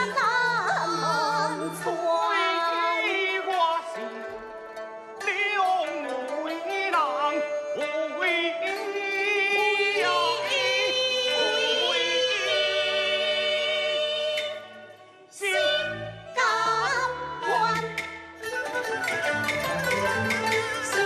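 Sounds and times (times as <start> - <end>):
person singing opera: 0.0 - 4.6, 5.2 - 18.0
instrumental accompaniment: 0.0 - 21.0.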